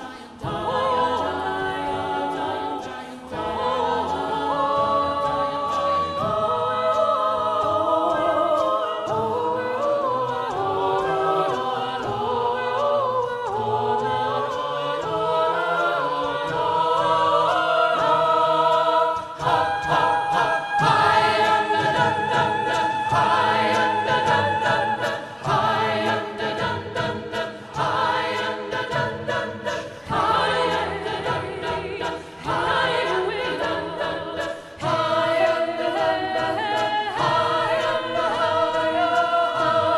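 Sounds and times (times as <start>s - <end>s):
a cappella group singing: 0.0s - 39.9s.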